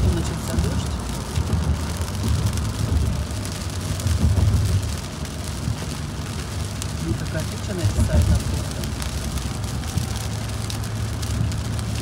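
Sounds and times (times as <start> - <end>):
rain spattering on car: 0.0 - 12.0
road and engine rumble: 0.0 - 12.0.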